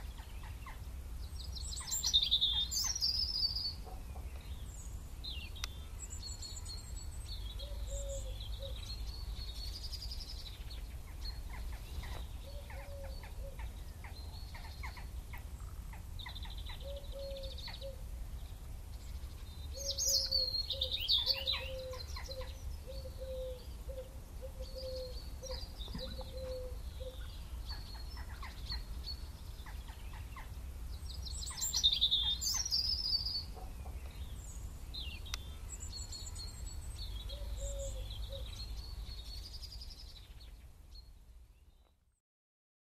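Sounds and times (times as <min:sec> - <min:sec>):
birds chirping and singing: 0:00.0 - 0:42.0.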